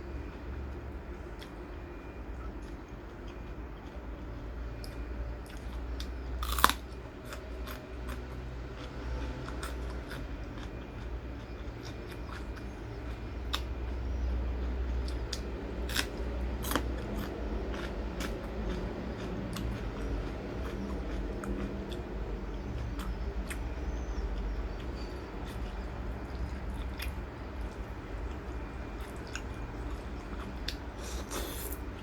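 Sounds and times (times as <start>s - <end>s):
person chewing crunchy food: 1.4s - 32.0s.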